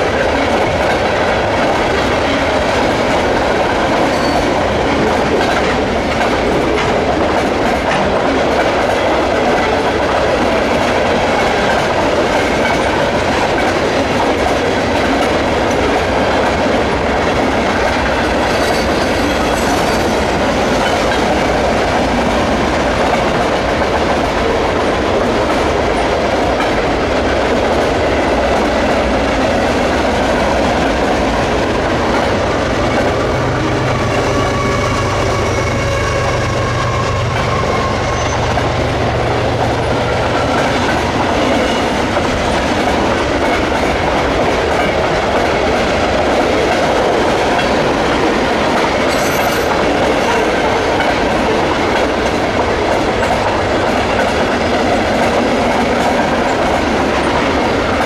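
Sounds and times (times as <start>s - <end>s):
rumble of train wheels on rail: 0.0s - 58.0s.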